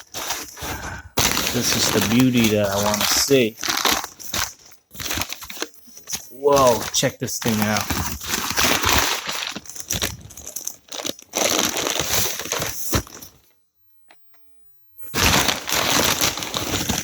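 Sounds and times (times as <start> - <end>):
packing material crinkling: 0.0 - 13.5, 15.1 - 17.0.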